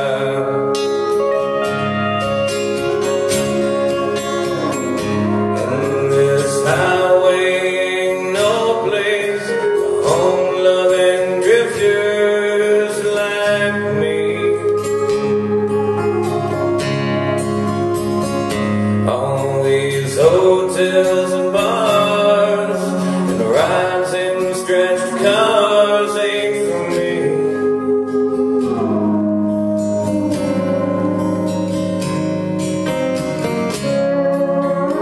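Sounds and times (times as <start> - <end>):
live band slow guitar song: 0.0 - 35.0
sliding lead guitar line: 0.0 - 35.0.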